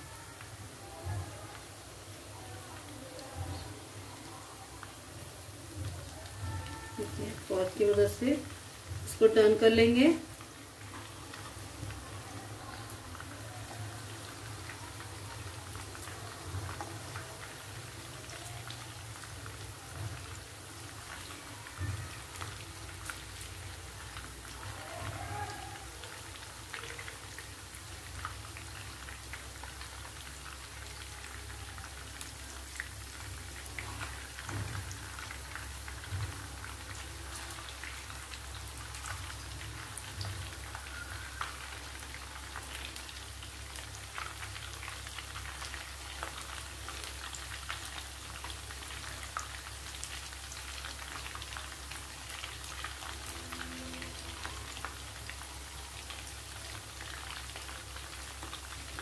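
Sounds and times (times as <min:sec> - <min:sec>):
hot oil sizzling and crackling: 0:00.0 - 0:59.0.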